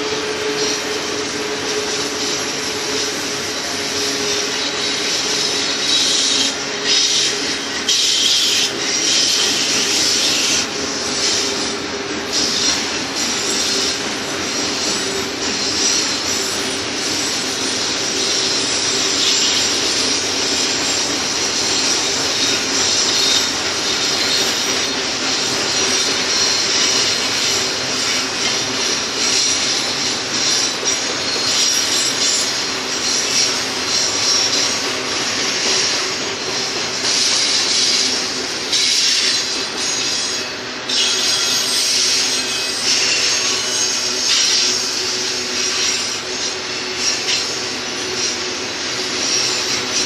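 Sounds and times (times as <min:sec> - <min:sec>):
train wheels rolling on rail: 0:00.0 - 0:50.0
wheels squealing: 0:00.0 - 0:50.0.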